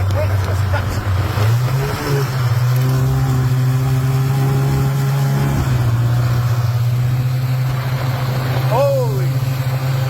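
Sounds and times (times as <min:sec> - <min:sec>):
snowmobile engine running: 0:00.0 - 0:10.0.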